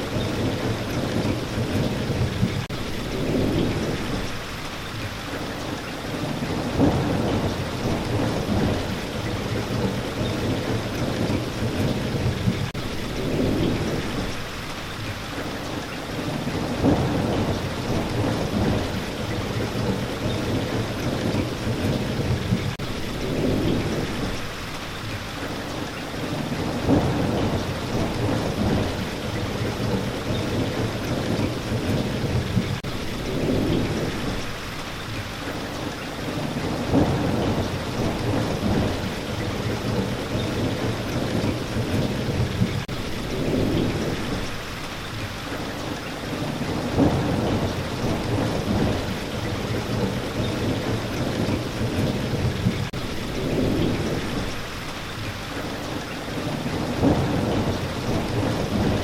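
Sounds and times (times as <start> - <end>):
heavy rainfall: 0.0 - 59.0
thunder rumbling: 0.0 - 59.0.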